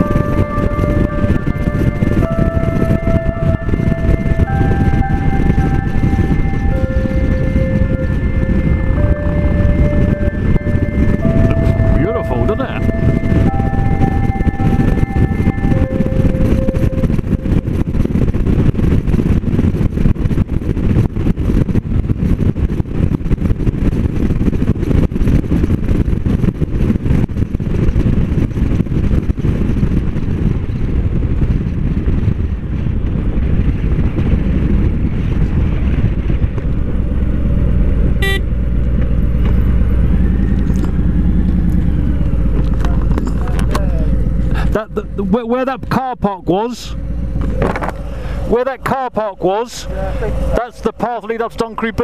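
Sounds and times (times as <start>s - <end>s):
motorcycle engine drone: 0.0s - 52.0s
wind buffeting microphone: 0.0s - 52.0s.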